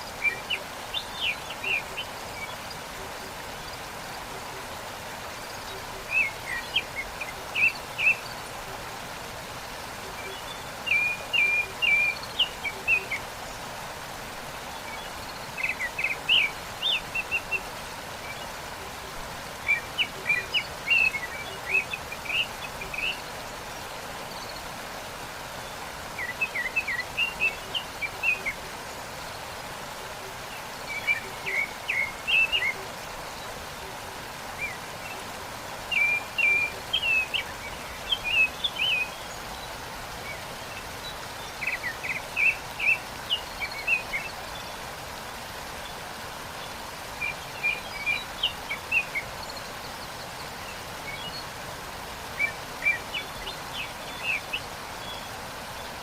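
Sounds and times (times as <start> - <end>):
songbird chirping: 0.0 - 56.0
waterfall rushing: 0.0 - 56.0.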